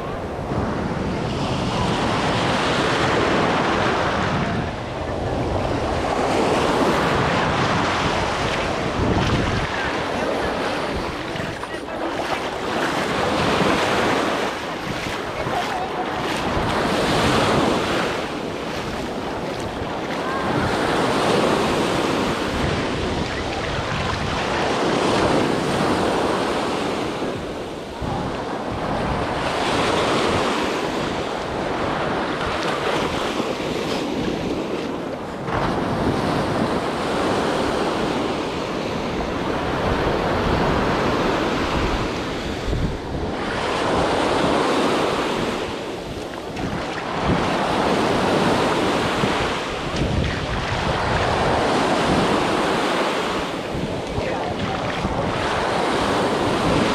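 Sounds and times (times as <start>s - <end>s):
surf breaking on beach: 0.0s - 56.9s
wind buffeting microphone: 0.0s - 56.9s.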